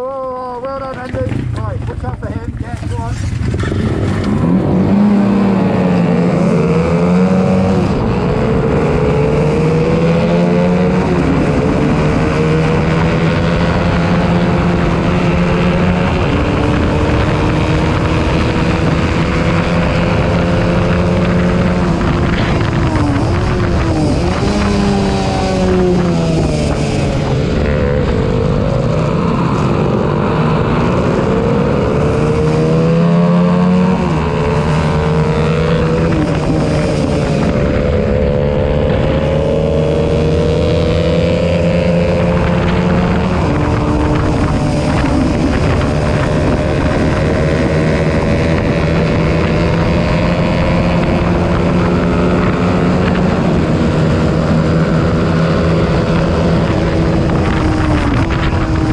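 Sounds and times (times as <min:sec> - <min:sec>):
motorcycle engines at high revs: 0:00.0 - 0:58.9.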